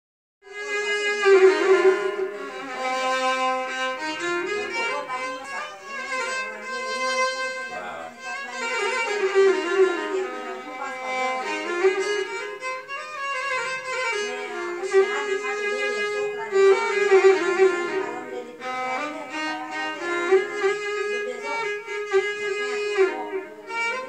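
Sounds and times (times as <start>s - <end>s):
solo violin melody: 0.4s - 24.0s
steady drone note: 0.5s - 24.0s.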